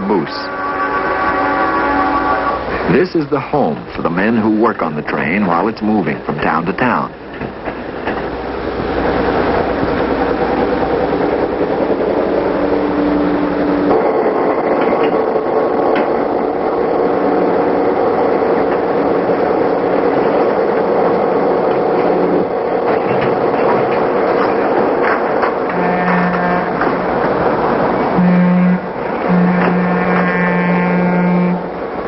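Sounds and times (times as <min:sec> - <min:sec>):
freight train clatter and rumble: 0:00.0 - 0:32.0.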